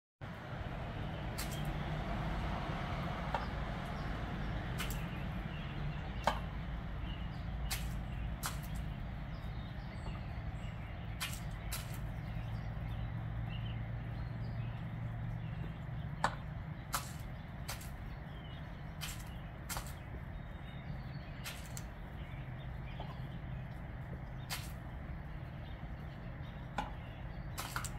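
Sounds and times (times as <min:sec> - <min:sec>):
steady low rumble: 0:00.2 - 0:27.9
beak tapping on concrete: 0:01.1 - 0:01.9, 0:03.2 - 0:27.9.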